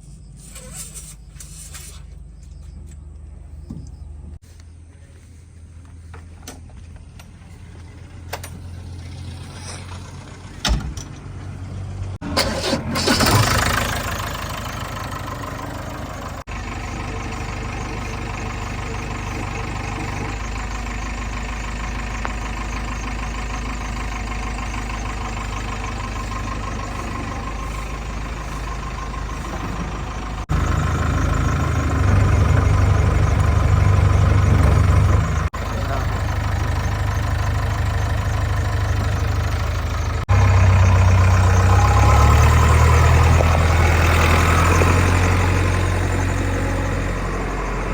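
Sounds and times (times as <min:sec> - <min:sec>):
heavy diesel engines running: 0:00.0 - 0:47.9.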